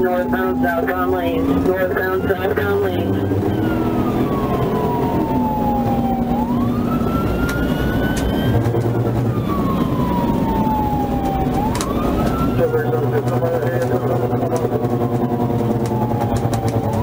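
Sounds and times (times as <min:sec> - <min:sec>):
car engine and road noise: 0:00.0 - 0:17.0
police siren wailing: 0:00.0 - 0:17.0.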